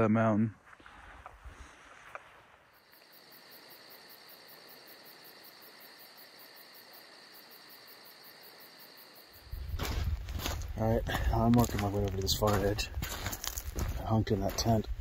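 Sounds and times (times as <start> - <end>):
cricket chirping: 2.0 - 15.0.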